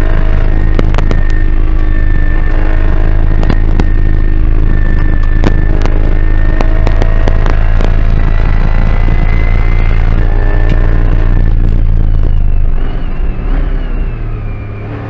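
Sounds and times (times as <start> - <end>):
sharp clicks and rattles: 0.0 - 13.2
car engine at full throttle: 0.0 - 15.0.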